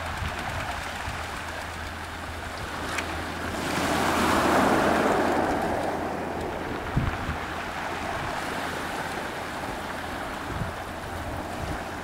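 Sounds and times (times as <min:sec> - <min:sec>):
small waves on a pebble beach: 0:00.0 - 0:12.0.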